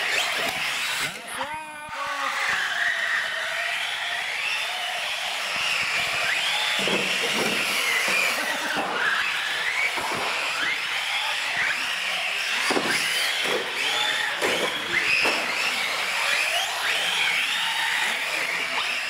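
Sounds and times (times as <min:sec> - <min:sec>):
electric motors whining: 0:00.0 - 0:19.0.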